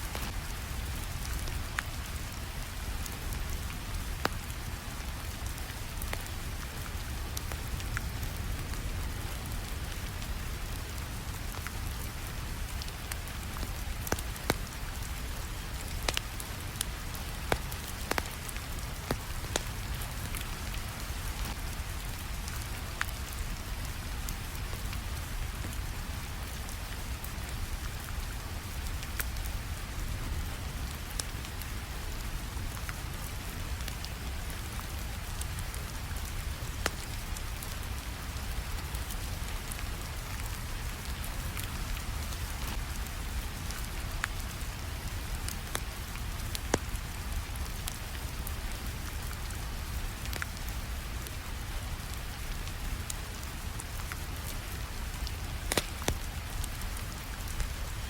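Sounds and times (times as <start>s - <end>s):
steady rainfall: 0.0s - 58.0s
wood fire crackling: 0.0s - 58.0s.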